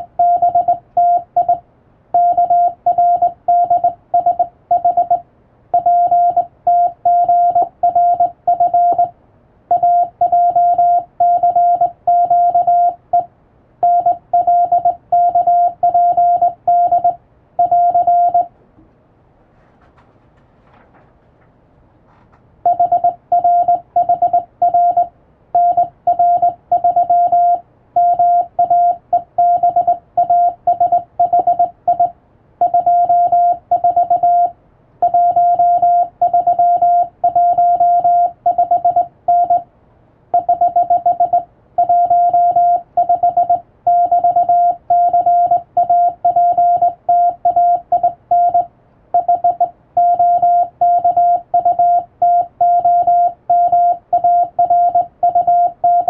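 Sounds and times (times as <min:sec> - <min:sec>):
morse code beeps: 0:00.0 - 0:01.6, 0:02.2 - 0:09.1, 0:09.7 - 0:18.5, 0:22.6 - 0:39.6, 0:40.3 - 0:56.0.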